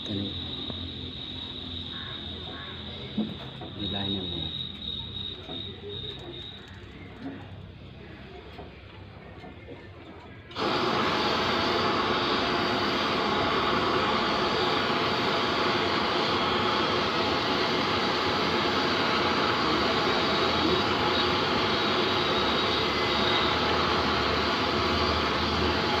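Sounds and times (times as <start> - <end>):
gas burner flame hissing: 0.0 - 26.0.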